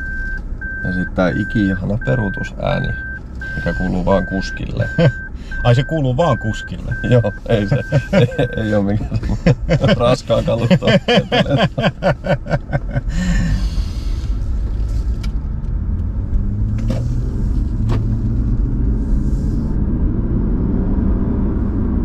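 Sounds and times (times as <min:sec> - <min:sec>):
car engine low rumble: 0:00.0 - 0:22.0
road noise: 0:00.0 - 0:22.0.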